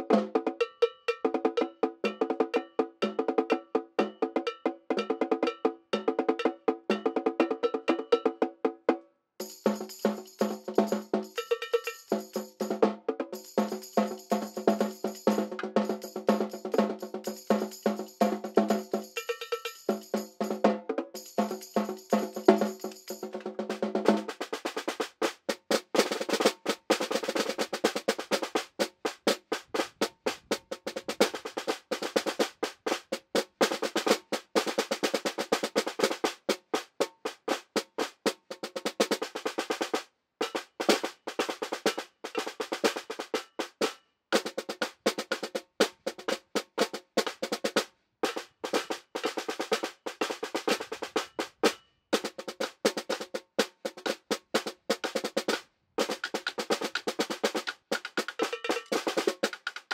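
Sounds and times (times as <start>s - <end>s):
snare drums played fast: 0.0s - 8.8s, 9.4s - 59.9s.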